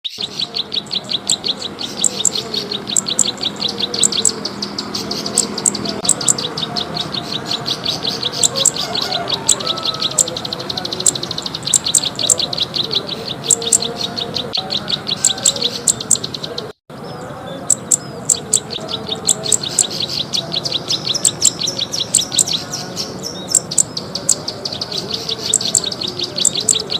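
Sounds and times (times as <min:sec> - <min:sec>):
songbird clicking chirps: 0:00.1 - 0:16.7, 0:17.7 - 0:26.9.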